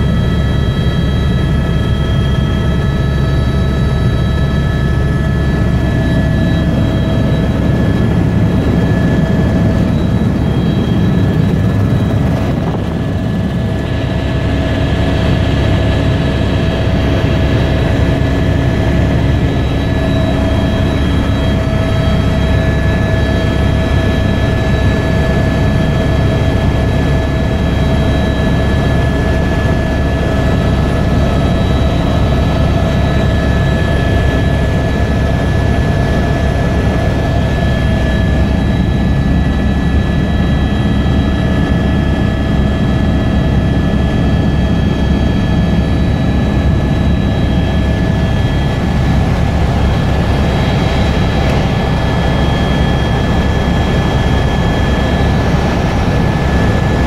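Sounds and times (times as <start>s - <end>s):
helicopter rotor and engine drone: 0.0s - 57.0s
high-pitched whine: 0.0s - 57.0s.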